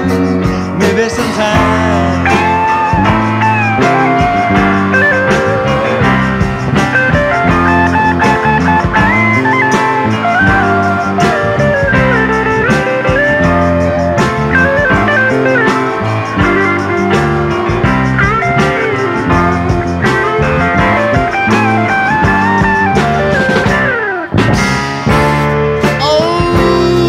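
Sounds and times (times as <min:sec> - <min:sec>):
lead guitar bending notes: 0:00.0 - 0:27.0
rock band instrumental: 0:00.0 - 0:27.0.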